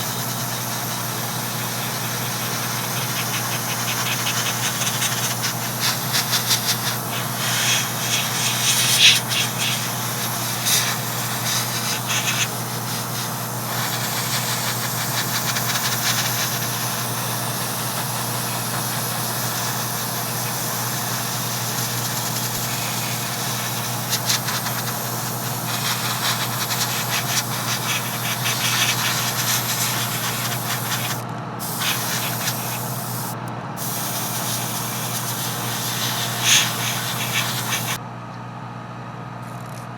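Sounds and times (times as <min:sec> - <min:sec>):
airbrush spraying hiss: 0:00.0 - 0:38.0
compressor humming: 0:00.0 - 0:39.9.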